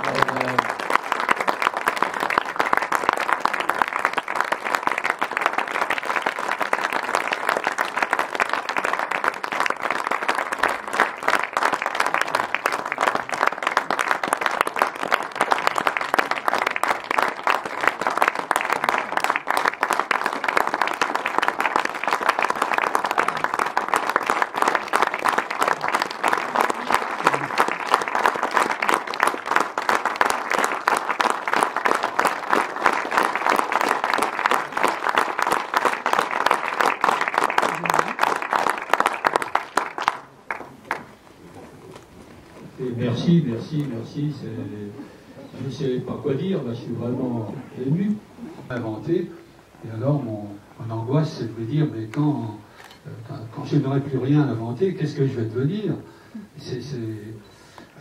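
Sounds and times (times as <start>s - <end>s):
audience applause: 0.0s - 48.0s.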